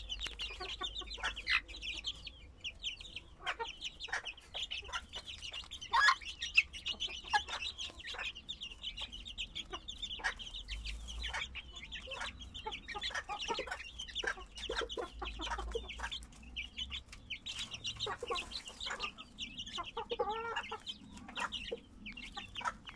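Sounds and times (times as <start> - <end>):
chicks peeping: 0.0 - 22.9
hen clucking: 0.0 - 22.9.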